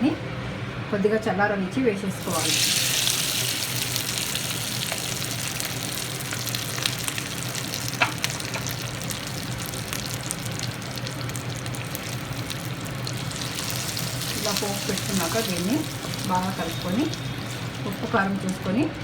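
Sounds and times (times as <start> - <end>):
hot oil sizzling: 2.2 - 18.9.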